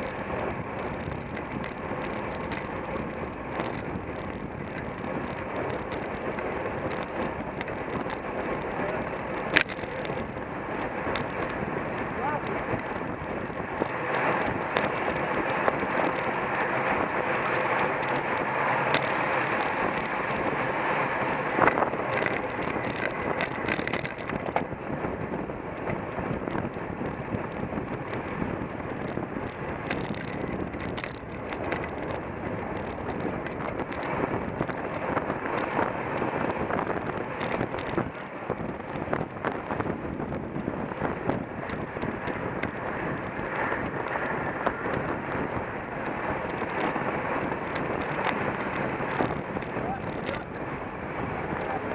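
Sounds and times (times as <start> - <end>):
bicycle tyre and drivetrain noise: 0.0 - 51.9
wind on microphone: 0.0 - 51.9.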